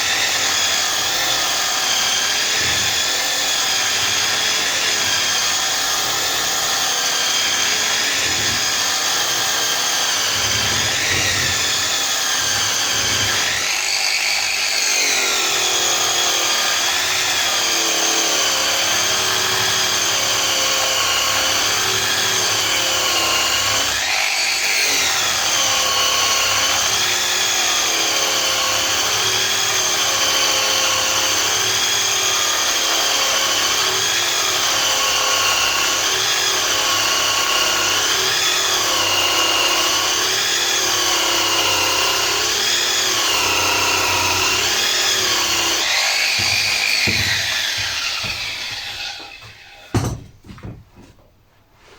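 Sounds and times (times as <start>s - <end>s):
wire brush power tool whine: 0.0s - 50.0s.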